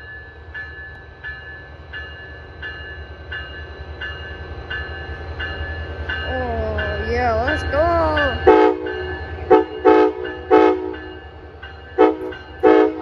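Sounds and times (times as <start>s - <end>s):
bell ringing: 0.0s - 12.8s
diesel locomotive rumble: 0.0s - 13.0s.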